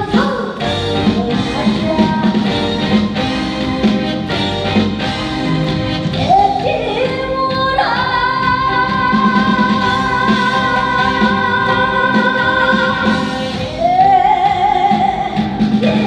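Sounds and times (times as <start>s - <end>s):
woman singing with vibrato: 0.0s - 3.3s, 6.0s - 16.0s
band playing: 0.0s - 16.0s.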